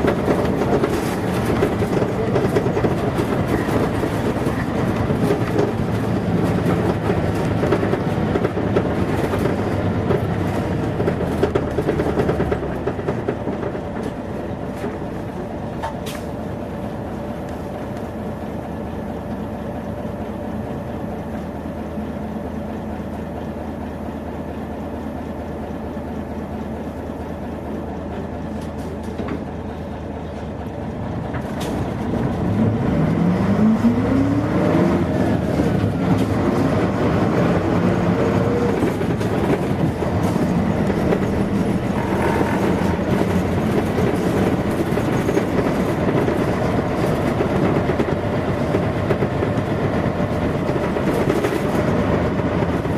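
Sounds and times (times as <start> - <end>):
bus diesel engine: 0.0 - 52.9.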